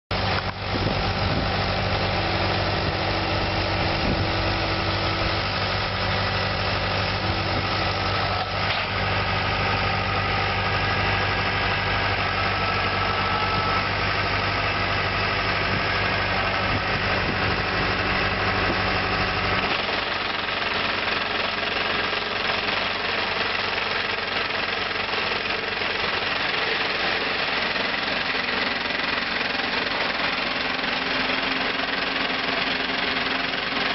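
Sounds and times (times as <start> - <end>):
diesel engine drone: 0.1 - 33.9
machinery clatter and rattle: 0.2 - 13.7, 15.1 - 33.9.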